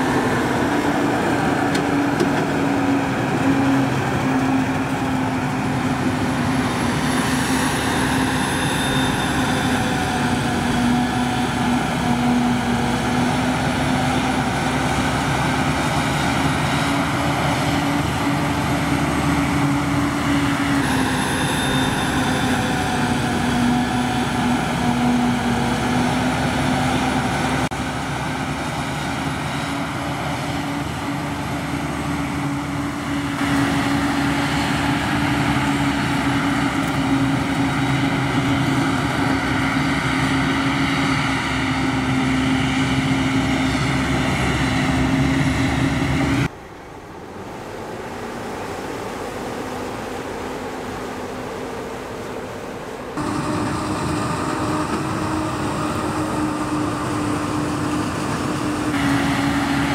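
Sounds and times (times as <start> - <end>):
harvester engine drone: 0.0 - 59.9.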